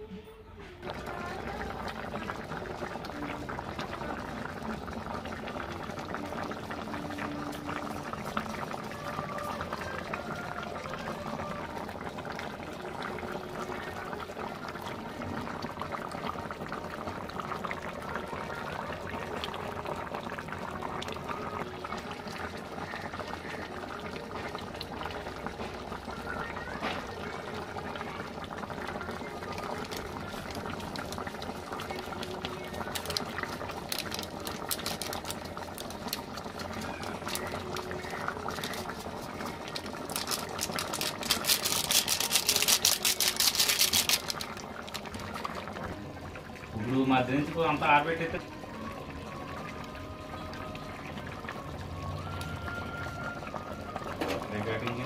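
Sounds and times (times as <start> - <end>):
curry boiling and bubbling: 0.6 - 55.0.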